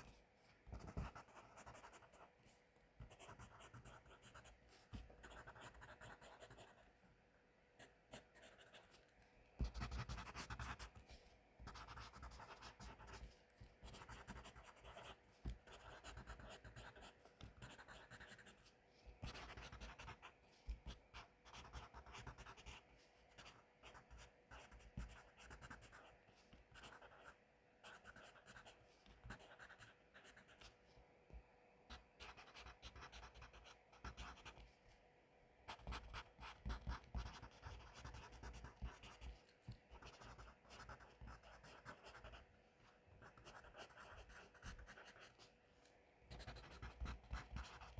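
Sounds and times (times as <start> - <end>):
pencil scratching on paper: 0.0 - 2.4, 3.0 - 6.8, 7.8 - 9.0, 9.6 - 30.8, 32.2 - 34.7, 35.7 - 45.5, 46.3 - 47.9.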